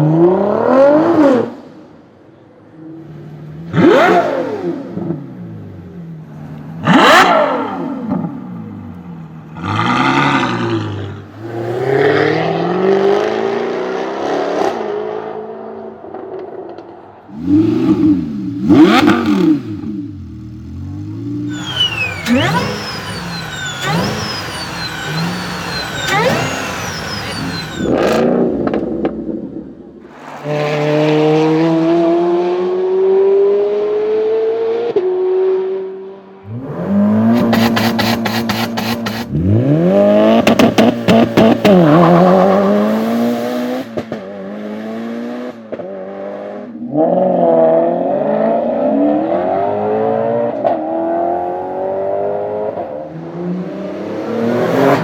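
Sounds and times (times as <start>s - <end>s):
supercar engines revving: 2.7s - 55.0s.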